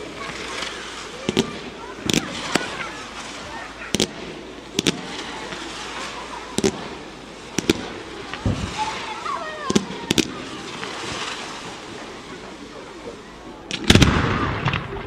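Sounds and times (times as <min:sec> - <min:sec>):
fireworks bursting with sharp bangs: 0:00.0 - 0:15.0
steady hiss: 0:00.0 - 0:15.0.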